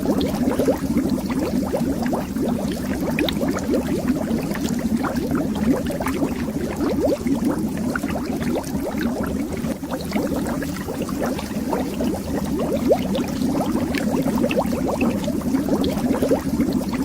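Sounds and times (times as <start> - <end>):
air bubbles gurgling underwater: 0.0 - 17.0.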